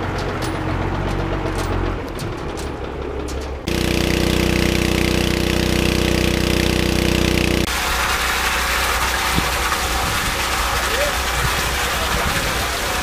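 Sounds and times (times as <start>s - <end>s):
truck engine running pump: 0.0s - 13.0s.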